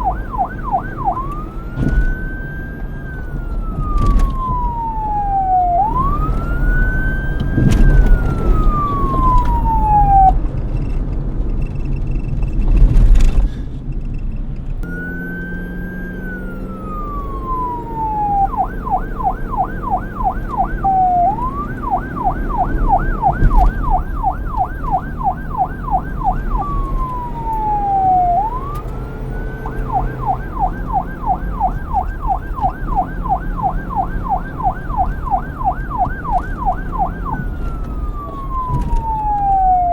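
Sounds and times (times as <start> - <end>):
police car siren wailing and yelping: 0.0 - 10.4, 14.8 - 39.9
low traffic rumble: 0.0 - 39.9.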